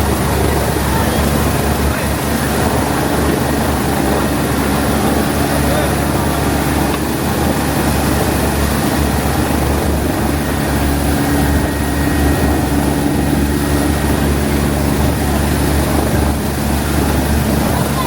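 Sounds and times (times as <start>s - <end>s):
engine drone: 0.0s - 18.0s
low hum: 0.0s - 18.0s.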